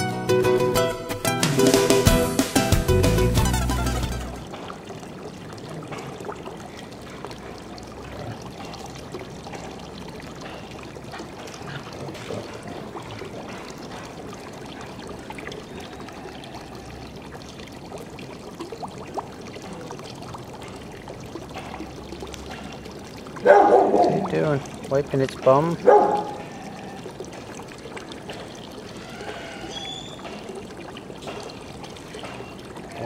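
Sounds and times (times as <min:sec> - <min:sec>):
water trickling: 0:01.7 - 0:33.0.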